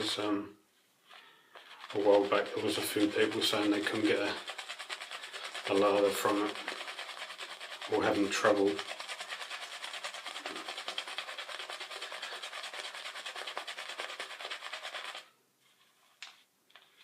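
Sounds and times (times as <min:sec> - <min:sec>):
shaving brush swirling lather: 0:01.5 - 0:15.4.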